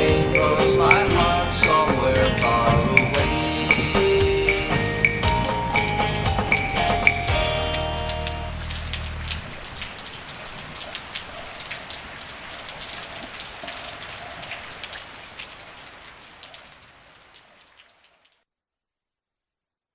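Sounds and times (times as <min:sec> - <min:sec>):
steady rain with drop clicks: 0:00.0 - 0:18.4.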